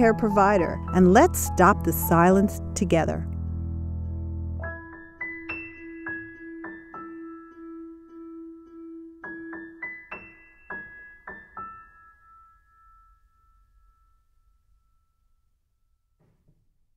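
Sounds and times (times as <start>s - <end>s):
piano-like keyboard music: 0.0s - 14.2s.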